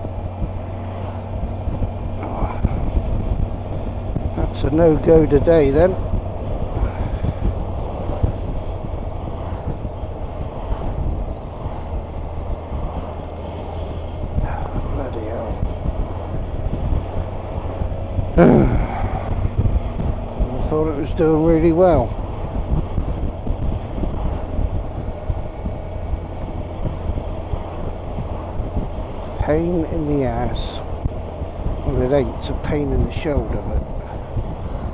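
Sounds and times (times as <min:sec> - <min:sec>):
motorcycle engine drone: 0:00.0 - 0:34.9
road noise: 0:00.0 - 0:34.9
wind rush over microphone: 0:00.0 - 0:34.9.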